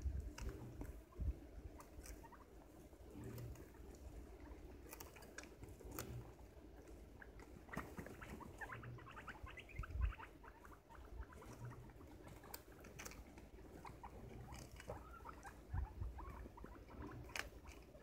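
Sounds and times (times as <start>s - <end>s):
guinea pigs crunching vegetables: 0.0s - 18.0s.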